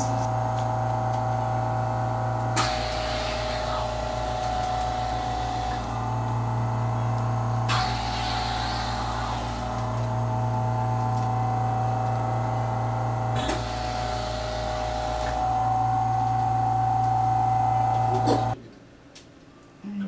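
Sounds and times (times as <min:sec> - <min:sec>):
suction pump hum and whine: 0:00.0 - 0:18.6.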